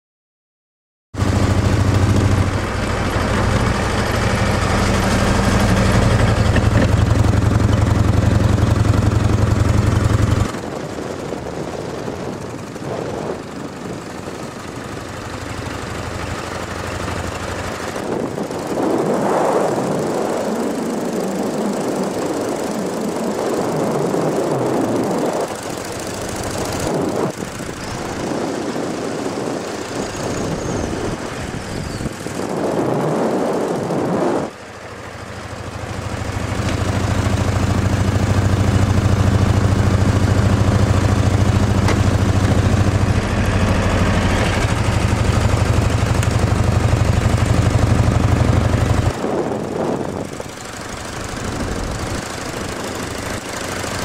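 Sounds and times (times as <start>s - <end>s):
engine low rumble: 1.2s - 54.0s.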